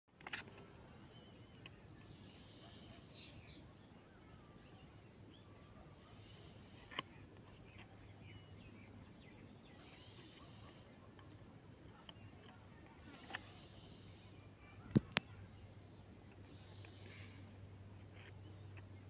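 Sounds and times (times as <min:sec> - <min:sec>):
high insect drone: 0:00.2 - 0:19.0
bird chirps: 0:01.0 - 0:19.0.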